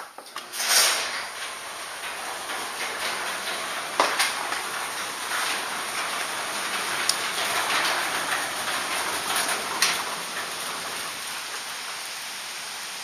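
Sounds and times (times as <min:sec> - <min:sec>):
heavy rain on concrete: 0:00.1 - 0:13.0.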